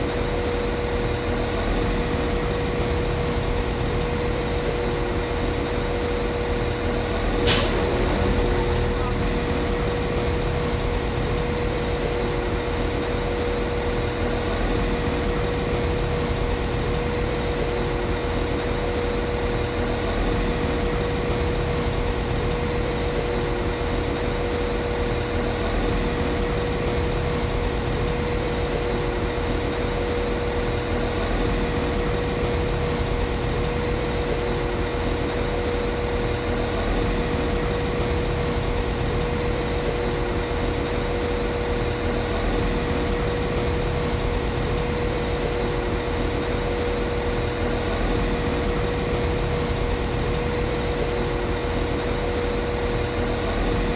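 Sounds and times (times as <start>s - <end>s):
constant whine: 0.0s - 53.9s.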